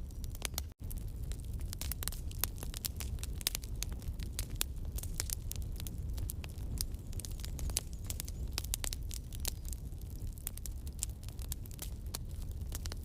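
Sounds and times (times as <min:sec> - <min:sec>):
low rumble of flames: 0:00.0 - 0:13.0
wood crackling and popping: 0:00.0 - 0:13.0.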